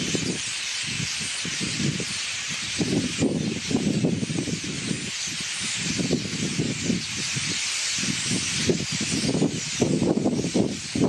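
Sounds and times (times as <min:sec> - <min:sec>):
starlings chattering: 0:00.0 - 0:11.0.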